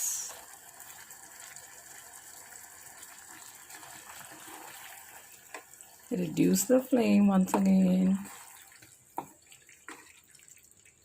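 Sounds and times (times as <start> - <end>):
food cooking in a pan hiss: 0.0 - 11.0.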